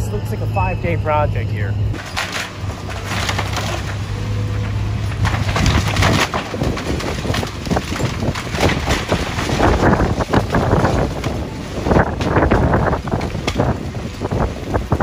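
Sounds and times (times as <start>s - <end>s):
diesel engine running: 0.0s - 15.0s
timber cracking and crunching: 2.0s - 15.0s.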